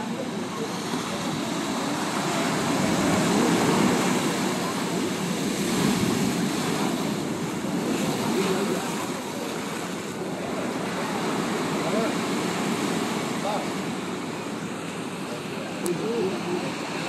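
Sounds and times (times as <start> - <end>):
waves breaking against seawall: 0.0 - 17.0.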